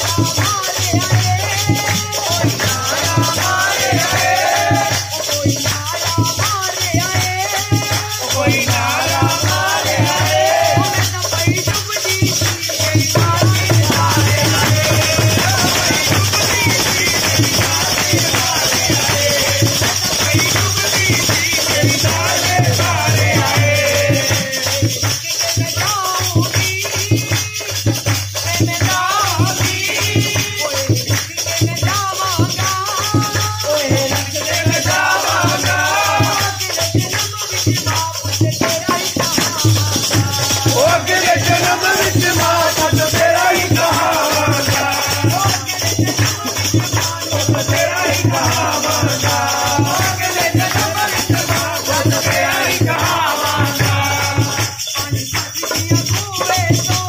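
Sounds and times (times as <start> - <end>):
fast percussion: 0.0 - 57.0
person singing devotional song: 0.0 - 57.0
shaker rattle: 0.0 - 57.0.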